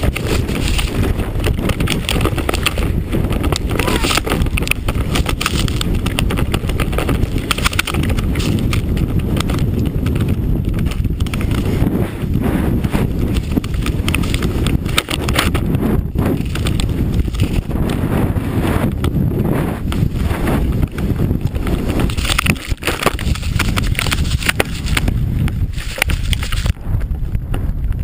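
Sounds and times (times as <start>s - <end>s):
crackling knocks: 0.0s - 11.8s, 12.7s - 18.1s, 19.8s - 28.0s
snowmobile engine rumble: 0.0s - 28.0s.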